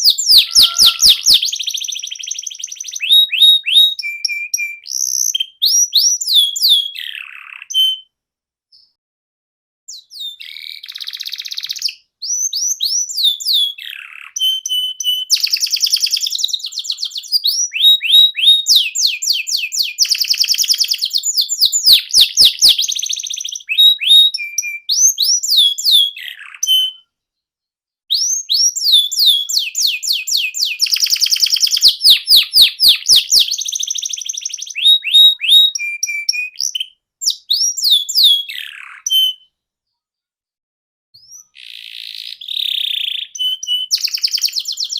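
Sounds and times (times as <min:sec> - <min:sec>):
canary singing trills and whistles: 0:00.0 - 0:08.1, 0:09.9 - 0:27.2, 0:28.1 - 0:39.6, 0:41.2 - 0:44.9.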